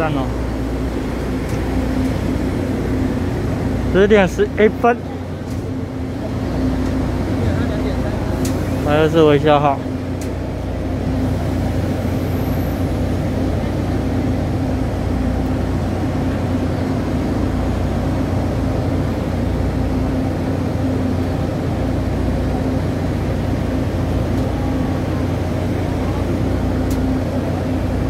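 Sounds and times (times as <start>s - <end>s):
diesel train engine idling: 0.0s - 28.0s.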